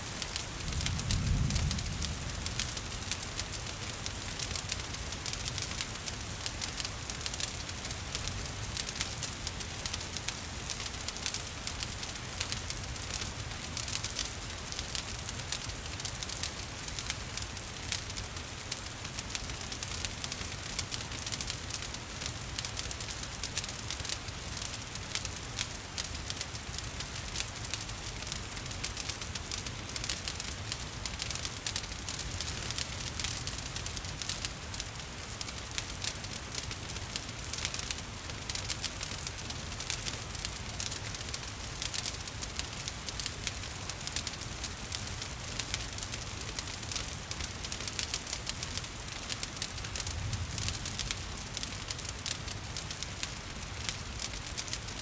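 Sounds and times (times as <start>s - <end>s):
rain falling: 0.0s - 55.0s
wood fire crackling and popping: 0.0s - 55.0s.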